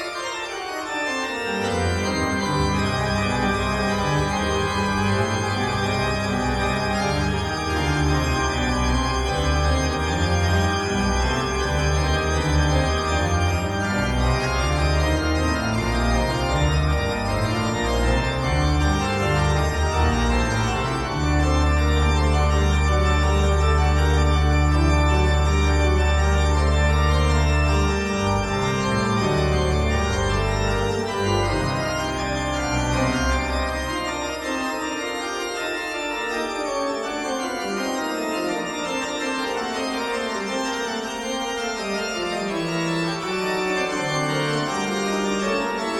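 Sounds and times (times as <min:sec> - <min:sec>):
organ chords: 0:00.0 - 0:45.9.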